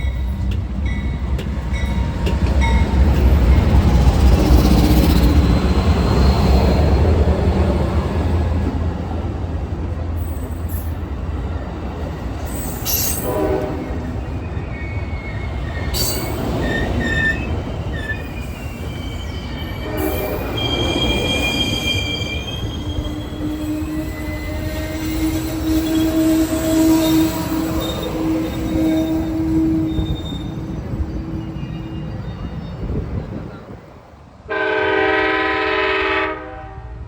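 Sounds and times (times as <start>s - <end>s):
train wheels squealing: 0.0s - 8.2s, 10.2s - 33.9s
train rumbling past: 0.0s - 37.0s.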